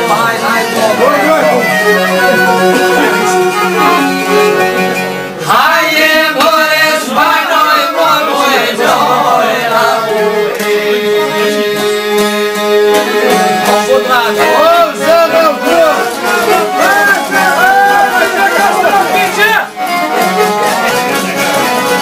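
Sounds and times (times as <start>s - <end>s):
man singing: 0.0s - 4.2s, 5.4s - 19.2s
bowed violin: 0.0s - 5.7s, 6.6s - 22.0s
plucked lutes: 0.0s - 5.7s, 7.0s - 22.0s.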